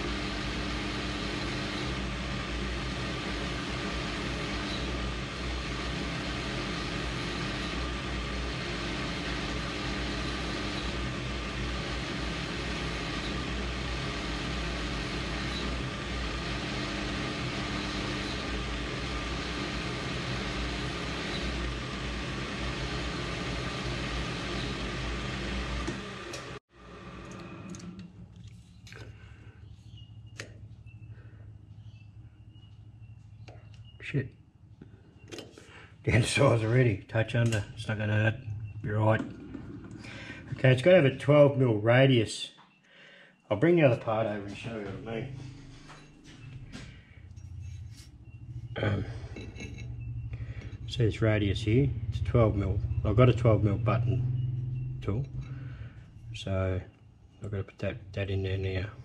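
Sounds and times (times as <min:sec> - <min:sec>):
metal lathe running: 0:00.0 - 0:28.1, 0:36.0 - 0:42.1, 0:43.6 - 0:59.0.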